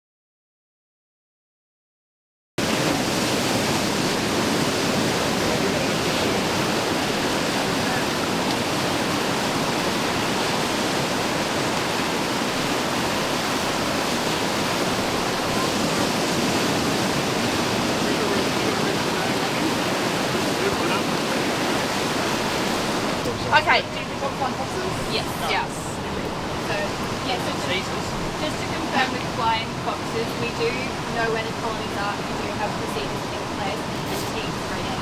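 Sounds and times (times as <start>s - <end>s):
whitewater rushing: 2.6s - 35.0s.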